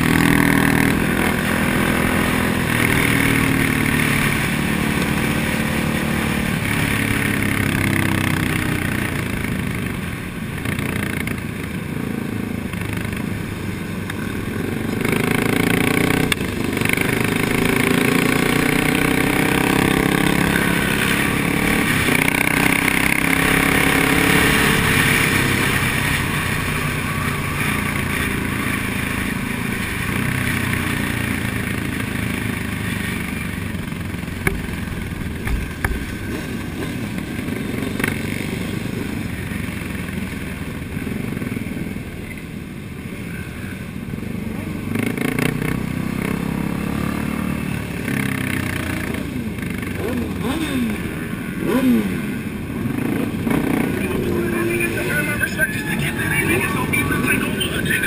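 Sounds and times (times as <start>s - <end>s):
motorcycle engines roaring: 0.0s - 58.0s.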